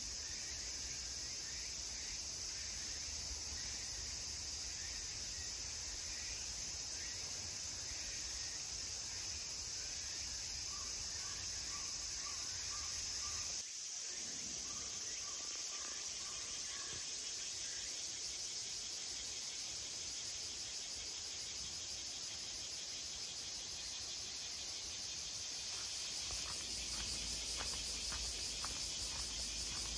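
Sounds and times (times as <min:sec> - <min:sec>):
high-pitched insect chorus: 0:00.0 - 0:29.9.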